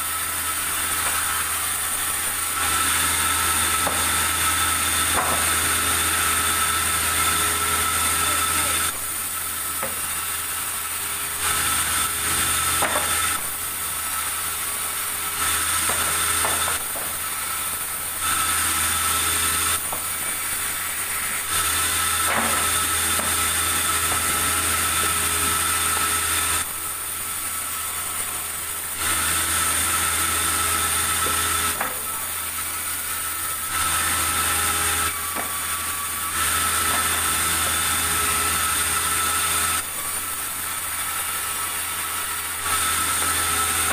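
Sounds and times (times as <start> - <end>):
sawmill saw cutting wood: 0.0 - 43.9.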